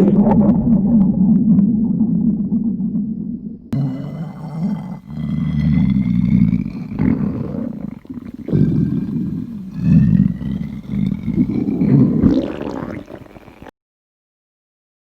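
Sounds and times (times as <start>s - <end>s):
stomach growling: 0.0s - 13.7s.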